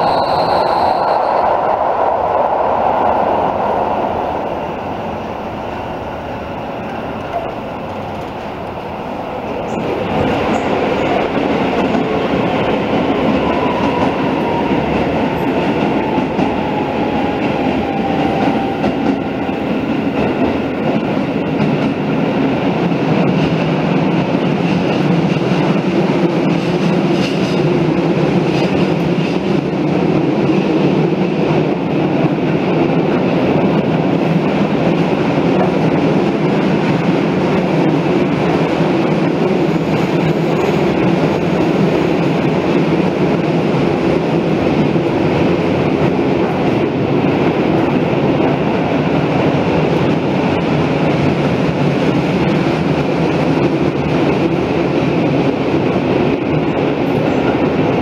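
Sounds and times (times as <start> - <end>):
electric train running in tunnel: 0.0 - 58.0.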